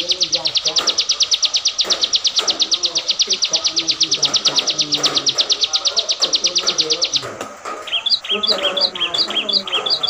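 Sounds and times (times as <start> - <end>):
songbird trilling: 0.0 - 10.0.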